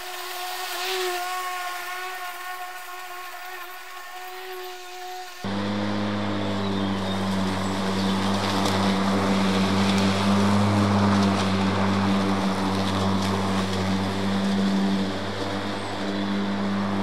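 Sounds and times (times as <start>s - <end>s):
electric lawnmower hum: 0.0s - 17.0s
grass being cut hiss: 0.0s - 17.0s.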